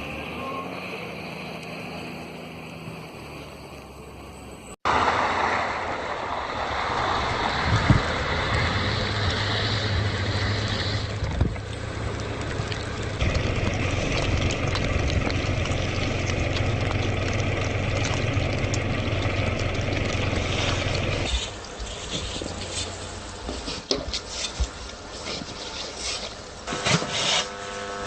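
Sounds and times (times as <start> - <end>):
engine humming with hiss: 0.0 - 28.0.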